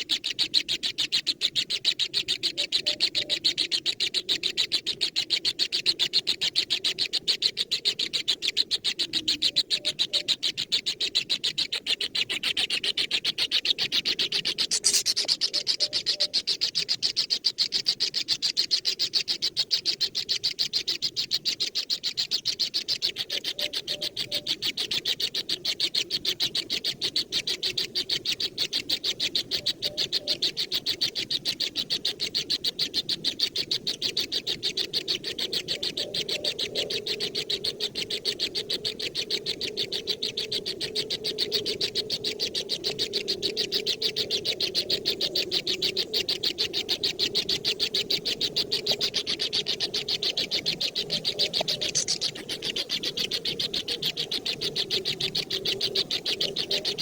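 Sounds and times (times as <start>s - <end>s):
bird chicks chirping: 0.0s - 57.0s.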